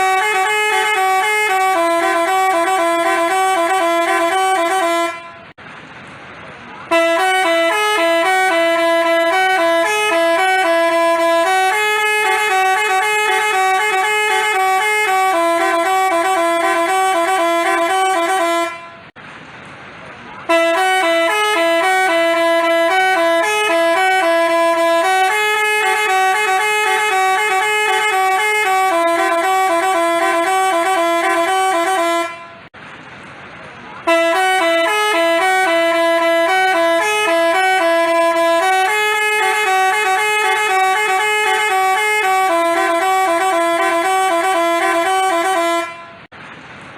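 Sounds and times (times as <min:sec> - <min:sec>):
musical bus horn tune: 0:00.0 - 0:05.6, 0:06.8 - 0:19.2, 0:20.4 - 0:32.8, 0:34.0 - 0:46.3.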